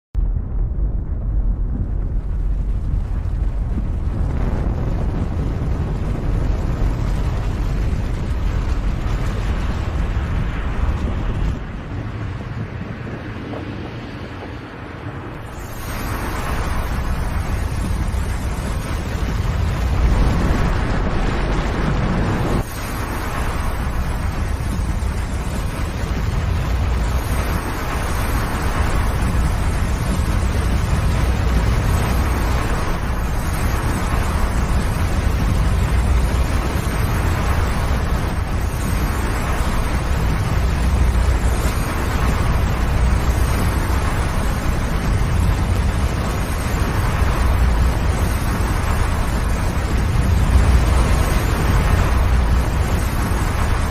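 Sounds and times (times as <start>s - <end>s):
avalanche rumbling: 0.2s - 53.9s.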